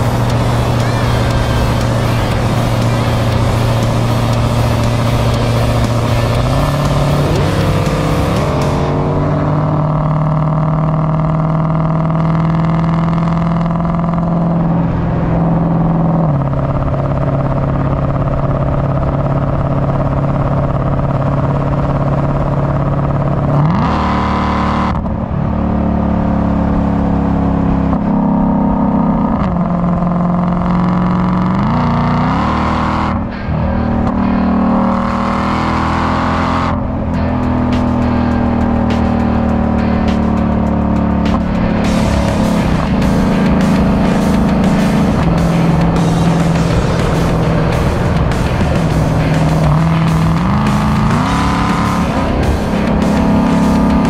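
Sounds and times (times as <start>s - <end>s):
car engine and exhaust: 0.0s - 54.0s
road and wind noise: 0.0s - 54.0s.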